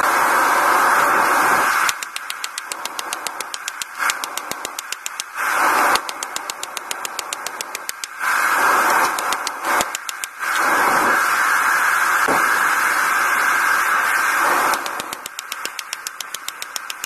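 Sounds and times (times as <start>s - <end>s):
forge burner roar: 0.0s - 4.8s, 5.4s - 17.0s.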